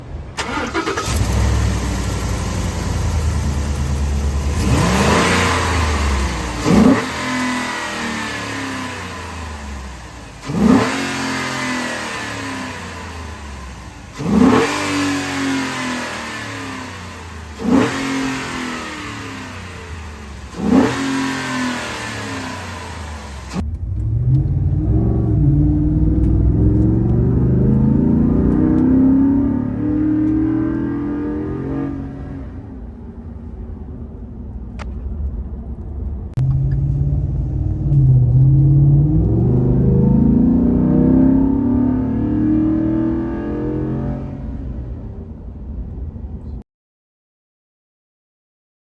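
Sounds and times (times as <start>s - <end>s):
engine accelerating: 0.4s - 32.8s, 36.3s - 45.2s
engine throttle blips: 0.4s - 32.8s, 36.4s - 45.2s.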